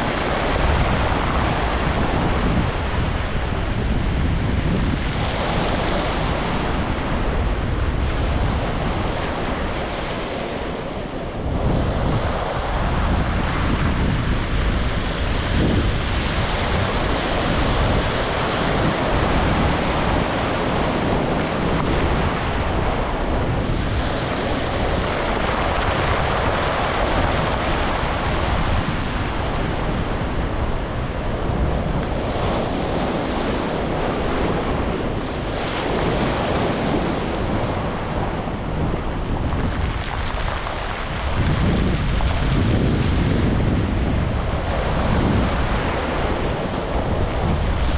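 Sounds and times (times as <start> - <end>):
surf breaking on beach: 0.0 - 47.9
wind rumbling on microphone: 0.0 - 47.9.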